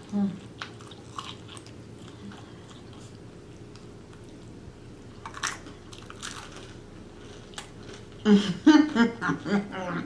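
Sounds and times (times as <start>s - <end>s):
person chewing food: 0.0s - 8.3s.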